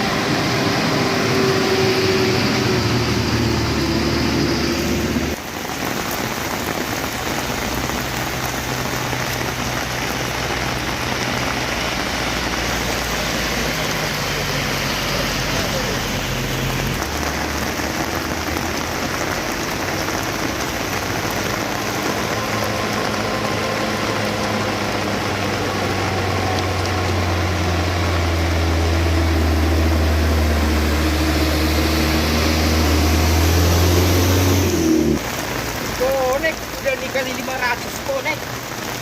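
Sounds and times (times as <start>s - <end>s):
heavy vehicle engine humming: 0.0s - 39.0s
rain hiss: 0.0s - 39.0s.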